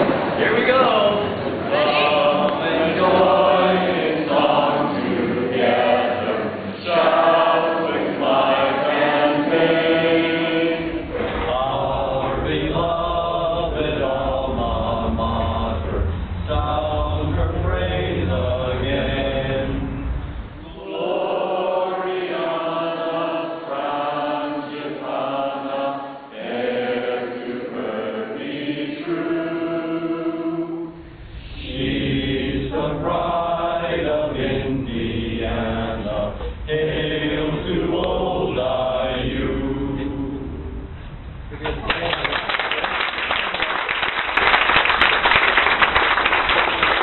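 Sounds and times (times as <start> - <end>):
group singing: 0.0 - 41.1.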